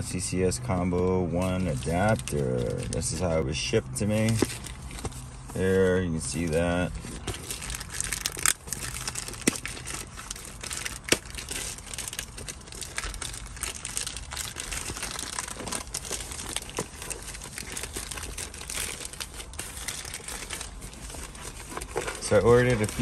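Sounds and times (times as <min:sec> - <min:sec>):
plastic bag crinkling: 0:00.8 - 0:23.0.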